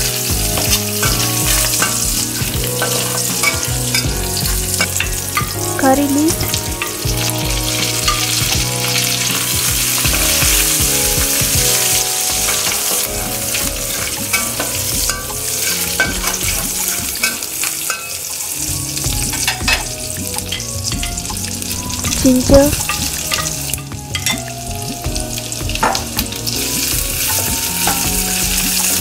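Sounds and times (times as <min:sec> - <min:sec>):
spices sizzling in hot oil: 0:00.0 - 0:29.0.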